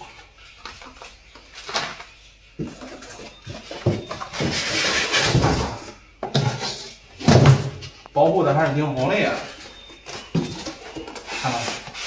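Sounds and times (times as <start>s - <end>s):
packing material rustling and scraping: 0.0s - 12.0s.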